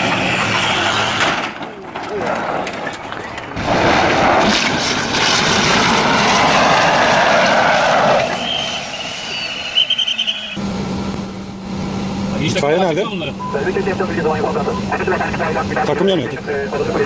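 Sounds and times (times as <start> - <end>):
aircraft roar: 0.0 - 17.0.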